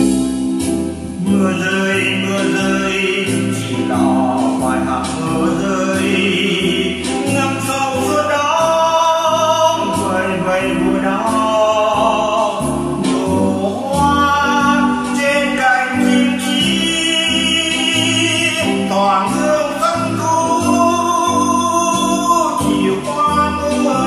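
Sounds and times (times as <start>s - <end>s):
bass line: 0.0s - 24.0s
keyboard chords: 0.0s - 24.0s
person singing: 0.0s - 24.0s.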